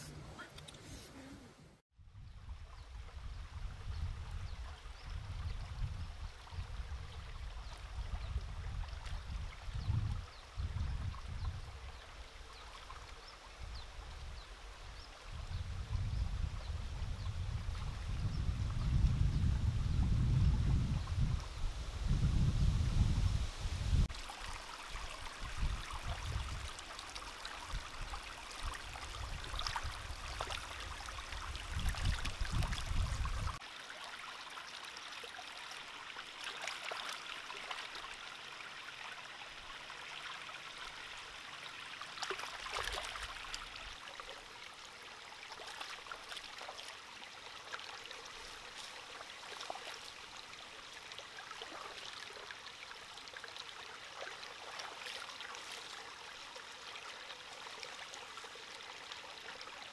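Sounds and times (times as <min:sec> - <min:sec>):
stream running over rocks: 0:02.8 - 0:59.9.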